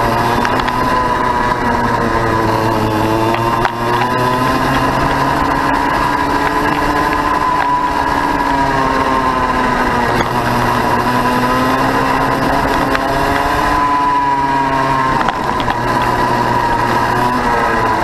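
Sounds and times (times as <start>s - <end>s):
racing kart engine buzzing: 0.0s - 18.0s.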